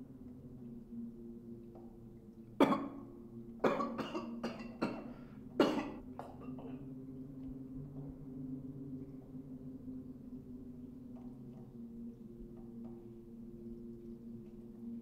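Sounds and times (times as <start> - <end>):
steady low droning tone: 0.0 - 15.0.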